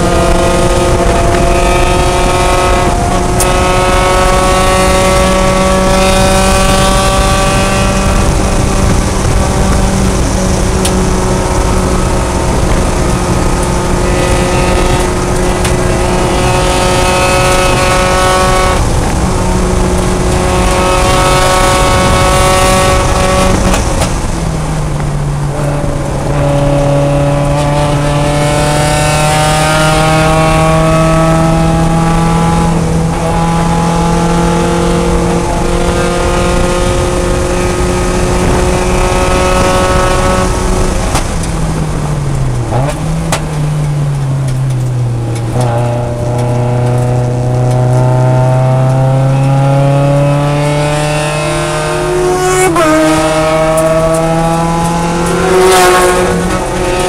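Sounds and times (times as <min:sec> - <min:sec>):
race car engine revving: 0:00.0 - 0:57.0
road and wind noise: 0:00.0 - 0:57.0.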